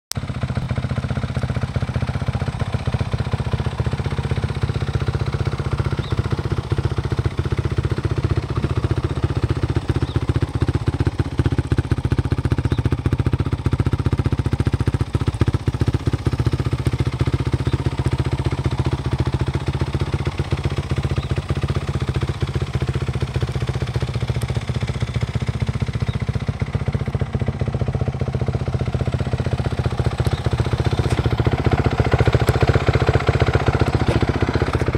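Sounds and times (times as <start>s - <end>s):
dirt bike engine idling: 0.2s - 34.9s.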